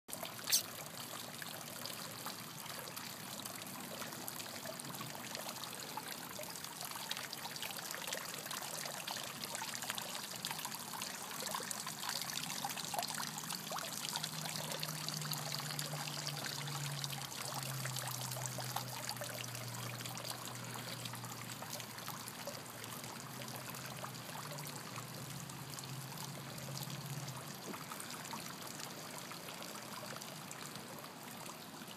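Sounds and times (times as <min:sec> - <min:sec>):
pool water trickling: 0:00.1 - 0:31.9.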